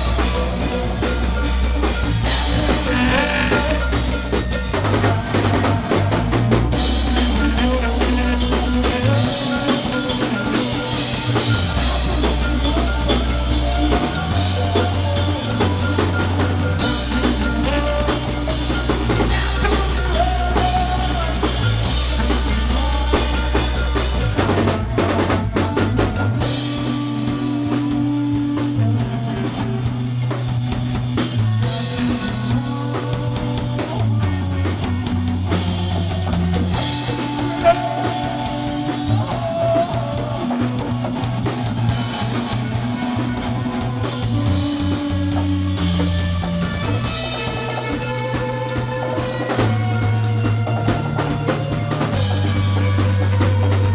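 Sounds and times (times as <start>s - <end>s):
deep bass notes: 0.0s - 53.9s
rock band playing: 0.0s - 53.9s.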